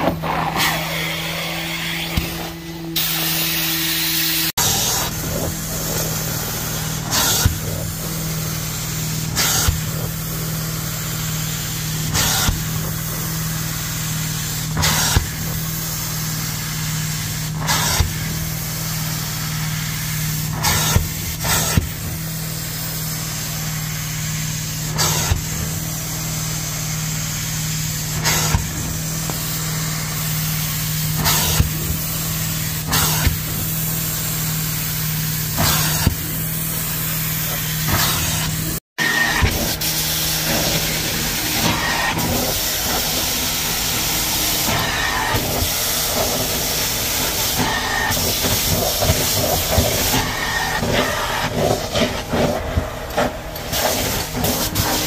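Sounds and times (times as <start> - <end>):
carpet extractor humming: 0.0 - 55.0
rushing bursts of wand suction: 0.0 - 55.0.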